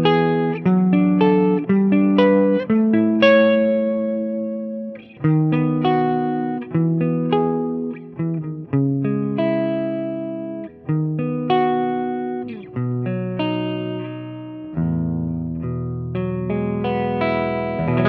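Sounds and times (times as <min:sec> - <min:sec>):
clean electric guitar with reverb: 0:00.0 - 0:18.0.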